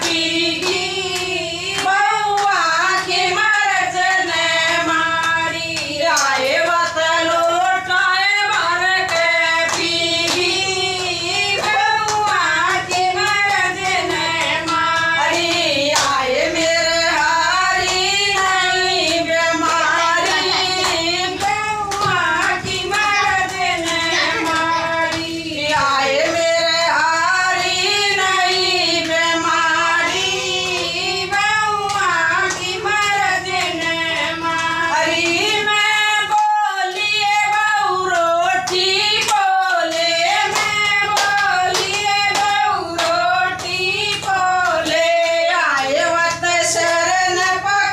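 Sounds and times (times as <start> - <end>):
hand-clapping: 0.0 - 47.9
women singing devotional song: 0.0 - 47.9.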